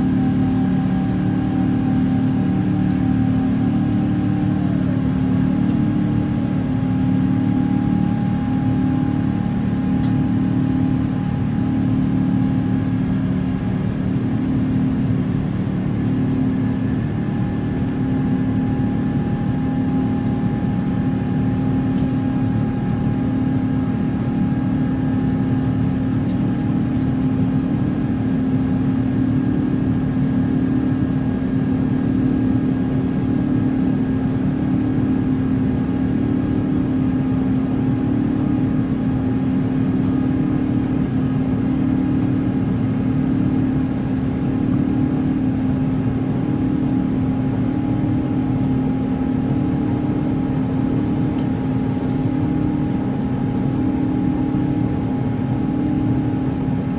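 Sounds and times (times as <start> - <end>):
jet engines and airflow drone: 0.0 - 56.9
low beating hum: 0.0 - 56.9.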